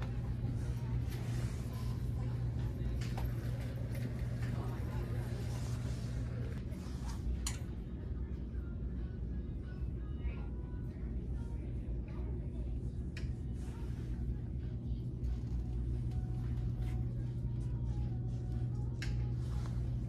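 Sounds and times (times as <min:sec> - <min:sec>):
low hum and rumble: 0:00.0 - 0:20.0.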